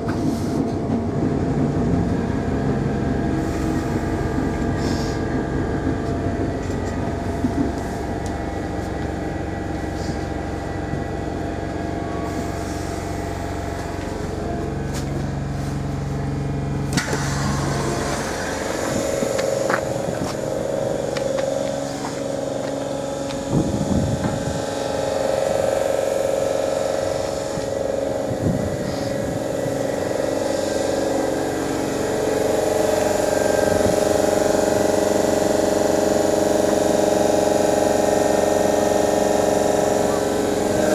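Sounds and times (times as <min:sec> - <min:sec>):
electric train humming: 0:00.0 - 0:40.9.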